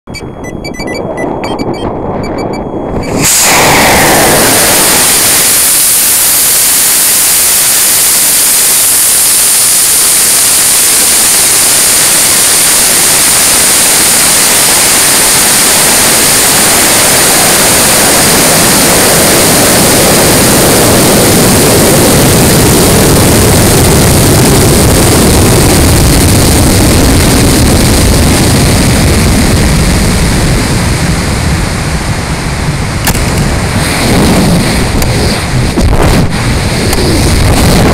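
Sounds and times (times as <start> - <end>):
air rushing past rocket: 2.8 - 37.9
rocket motor burning: 2.8 - 37.9.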